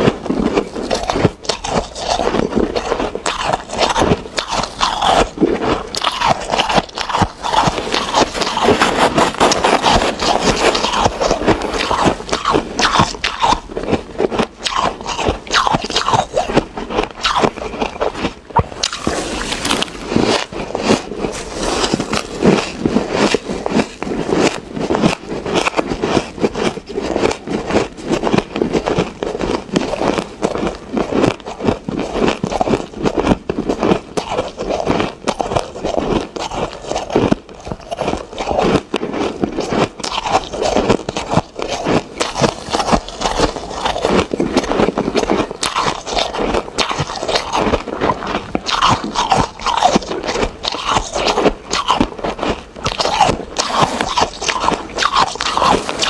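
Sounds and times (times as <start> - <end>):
mouth chewing crushed ice: 0.0 - 56.0.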